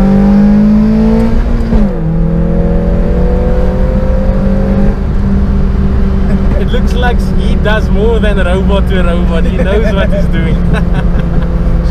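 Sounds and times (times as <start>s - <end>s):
car engine accelerating hard: 0.0s - 11.9s.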